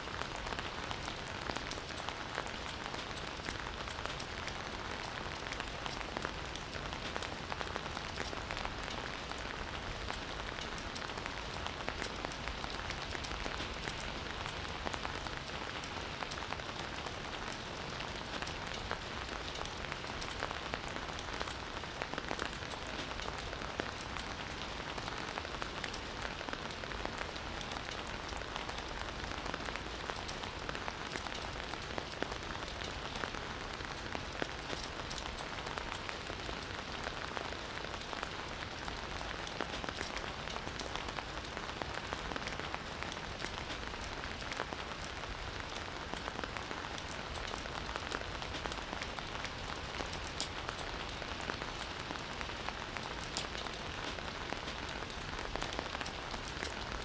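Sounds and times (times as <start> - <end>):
campfire crackling and popping: 0.1 - 57.0.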